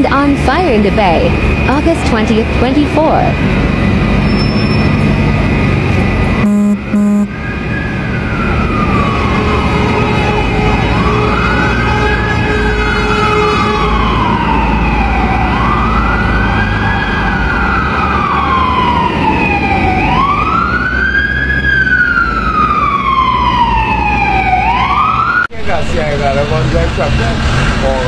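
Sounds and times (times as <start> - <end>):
fire engine siren wailing: 0.0 - 25.5.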